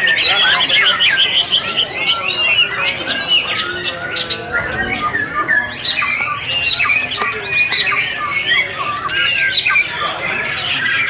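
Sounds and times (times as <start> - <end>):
birds singing whistles and trills: 0.0 - 11.0.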